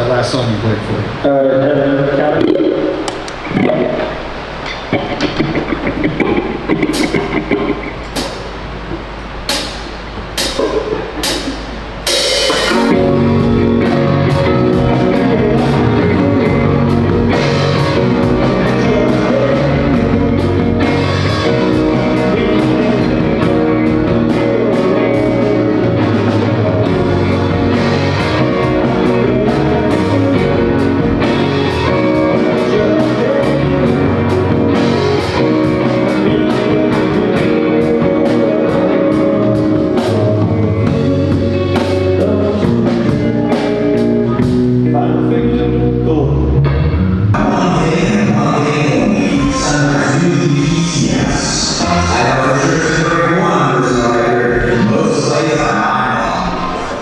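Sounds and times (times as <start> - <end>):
rock band playing: 2.7 - 57.0.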